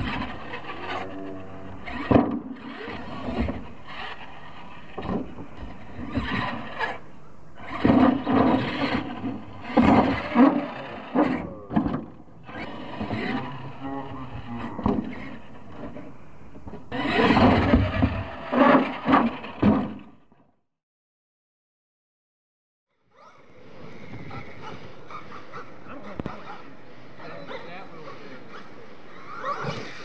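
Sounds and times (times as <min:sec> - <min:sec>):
toy truck motor revving: 0:00.0 - 0:16.1, 0:16.7 - 0:20.3, 0:22.9 - 0:30.0.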